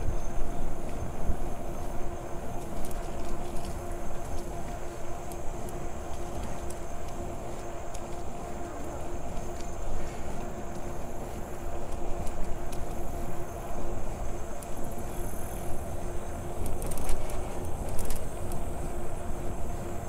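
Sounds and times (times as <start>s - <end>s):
bicycle tyre noise on trail: 0.0s - 20.0s
steady hum: 0.0s - 20.0s
wind buffeting microphone: 0.0s - 20.0s.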